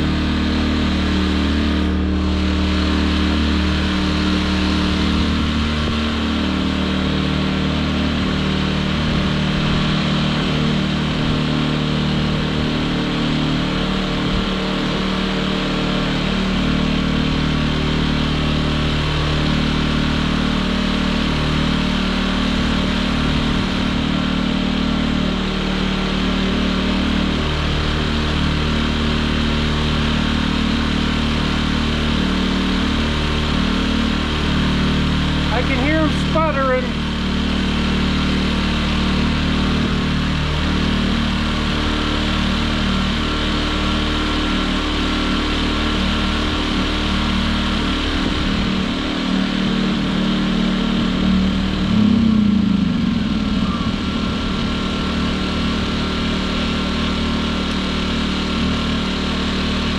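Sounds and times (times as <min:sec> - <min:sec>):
generators running: 0:00.0 - 0:59.9.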